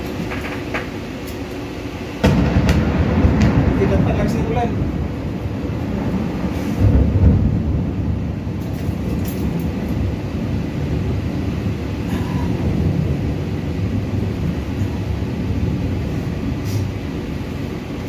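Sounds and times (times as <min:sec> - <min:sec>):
wind buffeting microphone: 0:00.0 - 0:18.0
heavy rain hissing: 0:01.8 - 0:18.0.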